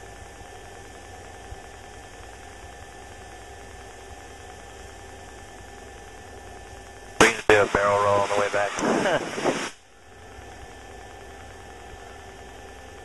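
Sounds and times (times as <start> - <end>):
light plane cabin drone: 0.1 - 13.0.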